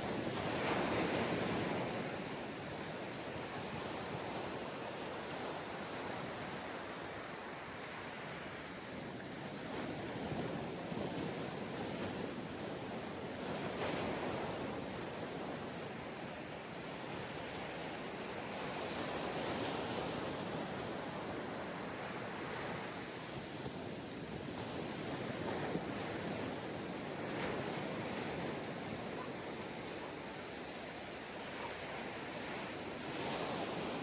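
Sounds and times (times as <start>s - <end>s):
ocean waves on sandy beach: 0.0s - 34.0s.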